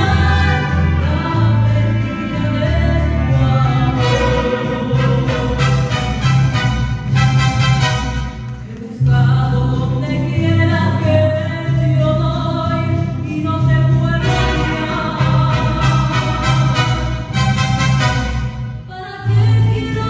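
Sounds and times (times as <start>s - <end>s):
mariachi ensemble playing: 0.0s - 9.2s, 12.2s - 20.0s
steady bass line: 0.0s - 20.0s.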